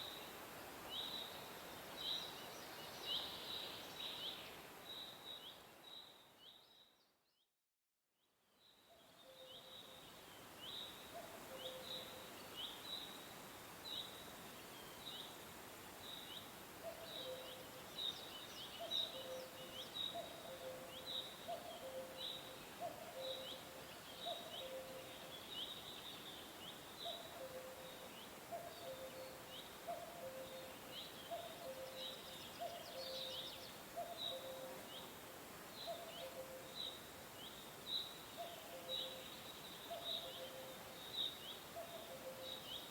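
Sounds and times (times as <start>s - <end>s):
background hiss: 0.0s - 6.8s, 8.4s - 42.9s.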